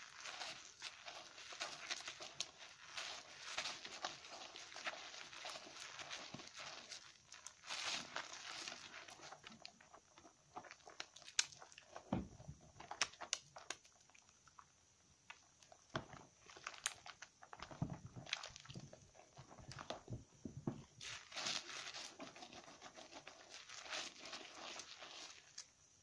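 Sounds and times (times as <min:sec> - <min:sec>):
soap lather squelching and crackling: 0:00.0 - 0:26.0.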